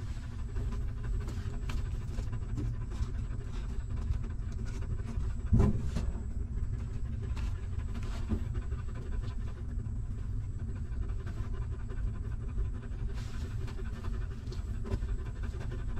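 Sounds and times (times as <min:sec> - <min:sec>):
dog panting: 0:00.0 - 0:15.9
steady low rumble: 0:00.0 - 0:15.9.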